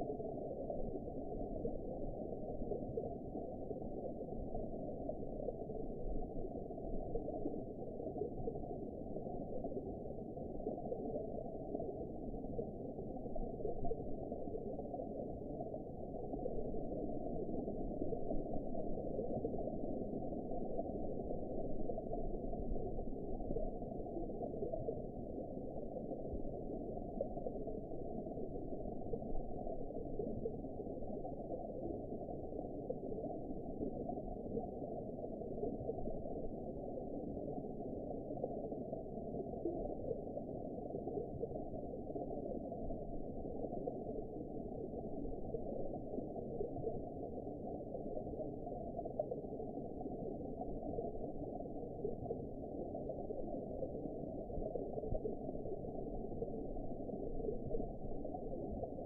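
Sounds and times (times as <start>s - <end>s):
muffled underwater rushing: 0.0s - 59.0s.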